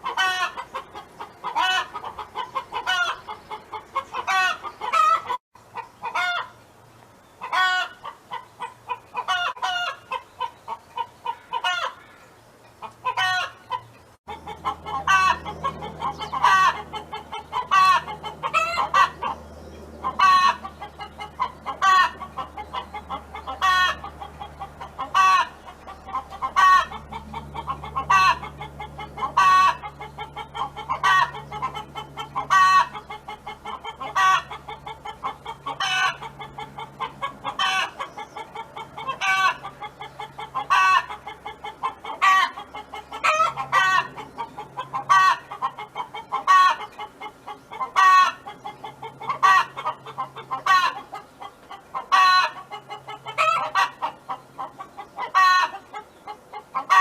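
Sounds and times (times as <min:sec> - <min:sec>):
hen clucking: 0:00.0 - 0:06.6, 0:07.4 - 0:57.0.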